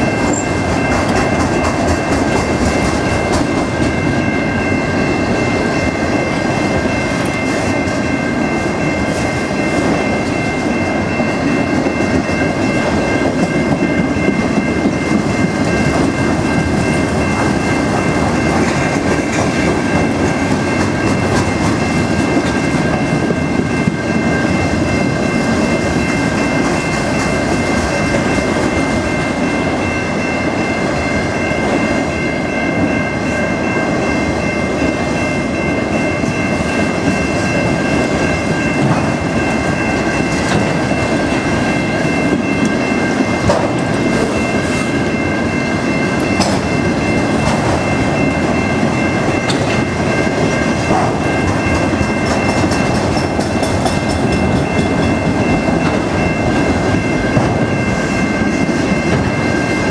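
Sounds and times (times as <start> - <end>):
crossing warning bell ringing: 0.0 - 59.9
train wheels rumbling on rails: 0.0 - 59.9.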